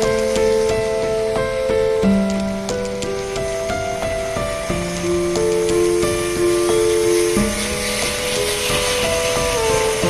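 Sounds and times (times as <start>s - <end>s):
slow melody of held notes: 0.0s - 10.0s
steady hiss: 0.0s - 10.0s.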